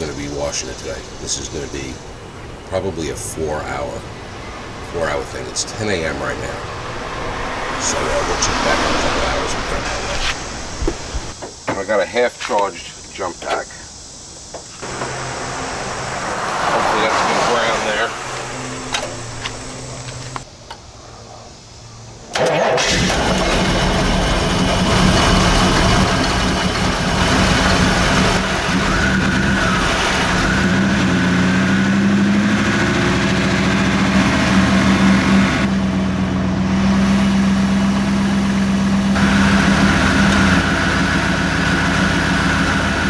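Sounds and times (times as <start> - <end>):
car engine starting and running: 0.0 - 11.4, 14.8 - 20.4, 22.3 - 43.0.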